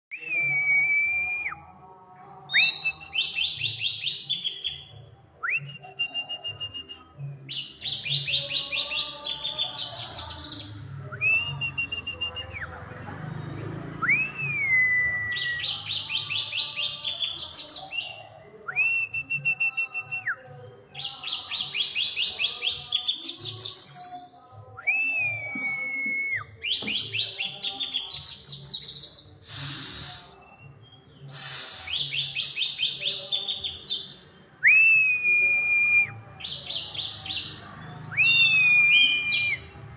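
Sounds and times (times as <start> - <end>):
songbird whistling and chattering: 0.1 - 12.6, 14.0 - 39.8.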